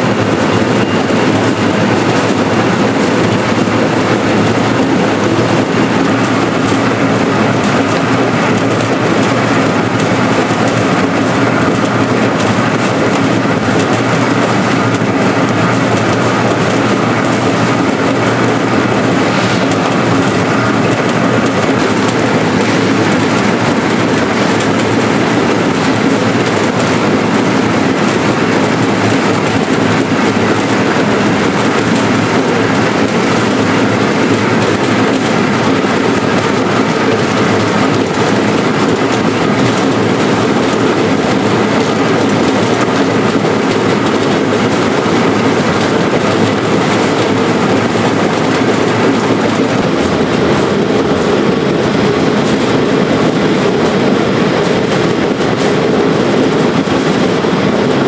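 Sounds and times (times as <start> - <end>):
machine clattering: 0.0 - 58.0.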